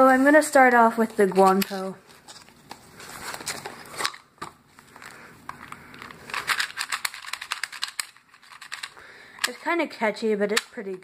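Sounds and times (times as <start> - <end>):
plastic wrap crinkling: 0.0 - 8.9.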